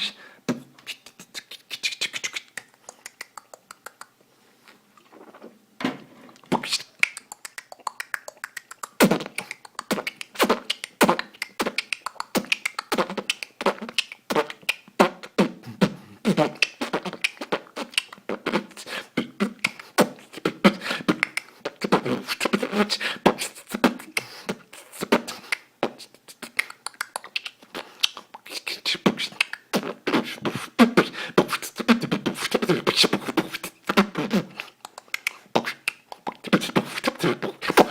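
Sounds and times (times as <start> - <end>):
man beatboxing: 0.0 - 4.2, 6.5 - 37.9.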